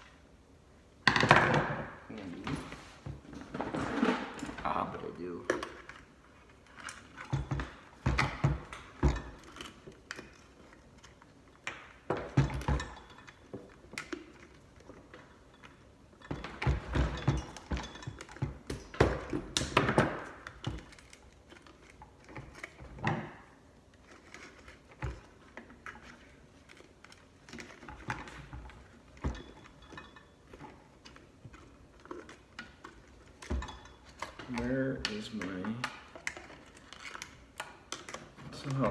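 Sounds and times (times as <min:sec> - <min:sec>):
hand tools clicking and rattling: 0:03.4 - 0:38.9.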